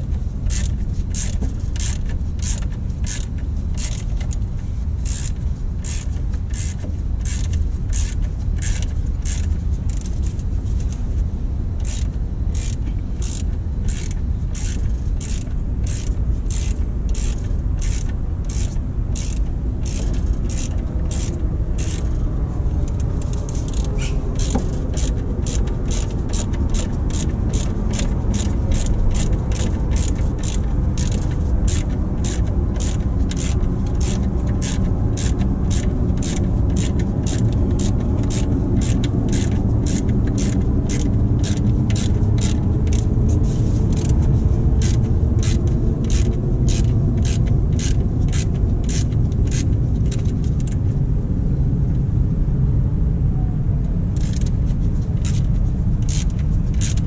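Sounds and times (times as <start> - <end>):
ratchet wrench clicking: 0.0 - 4.4, 5.0 - 11.0, 11.8 - 50.8, 54.2 - 54.5, 55.2 - 57.0
low rumble: 0.0 - 57.0.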